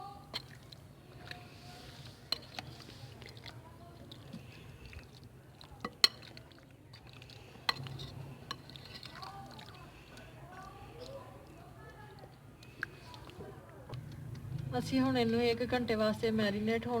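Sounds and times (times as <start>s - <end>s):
wet squishing of meat: 0.2s - 14.5s.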